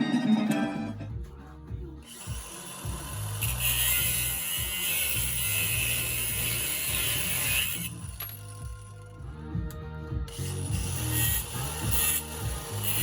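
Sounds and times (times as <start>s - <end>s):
background music with bass: 0.0s - 13.0s.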